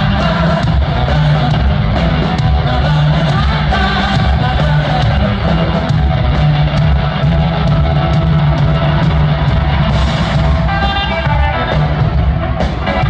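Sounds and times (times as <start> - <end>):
bass guitar: 0.0 - 13.0
distorted electric guitar: 0.0 - 13.0
drum beat: 0.0 - 13.0.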